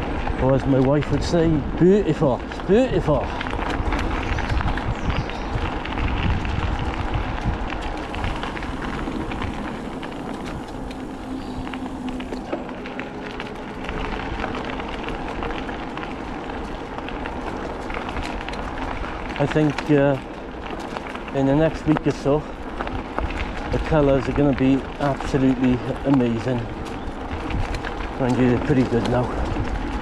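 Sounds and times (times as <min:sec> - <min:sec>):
bicycle tyres rolling on dirt path: 0:00.0 - 0:30.0.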